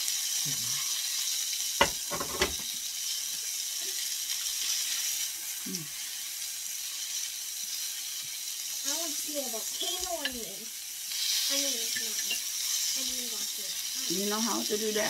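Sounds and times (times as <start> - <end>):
vegetables sizzling on griddle: 0.0 - 15.0.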